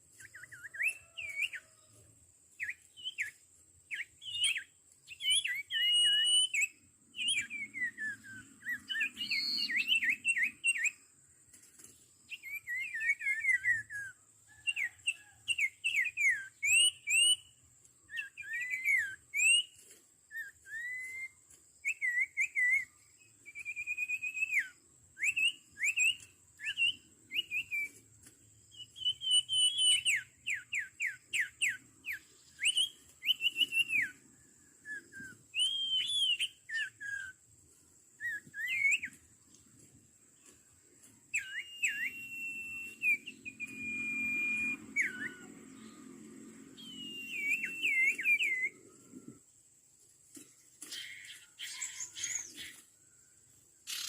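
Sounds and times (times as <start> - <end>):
birds whistling: 0.2 - 1.7, 2.6 - 11.1, 12.3 - 17.5, 18.1 - 28.0, 28.7 - 37.4, 38.2 - 39.2, 41.2 - 49.4, 50.8 - 52.9.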